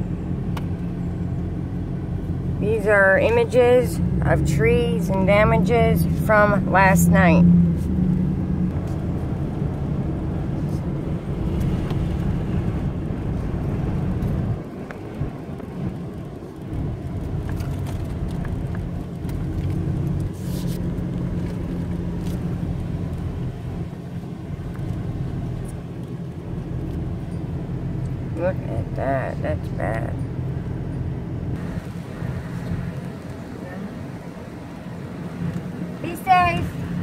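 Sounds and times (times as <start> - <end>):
vehicle engine and road hum: 0.0 - 37.0.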